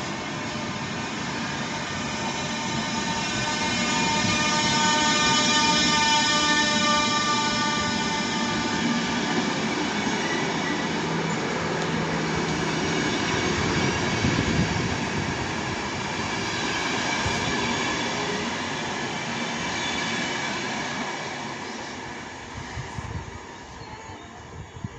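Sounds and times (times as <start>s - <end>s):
train wheels rolling on rails: 0.0s - 24.8s.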